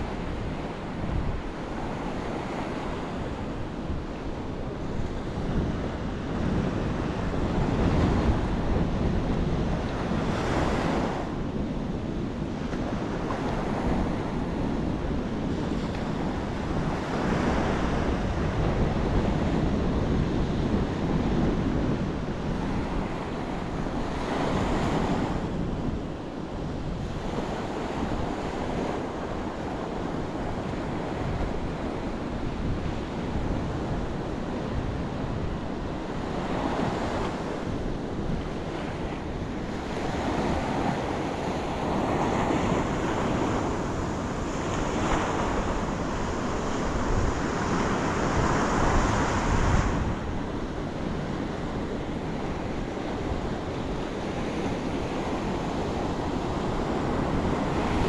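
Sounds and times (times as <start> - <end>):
ocean surf breaking on beach: 0.0 - 58.0
wind buffeting microphone: 0.0 - 58.0.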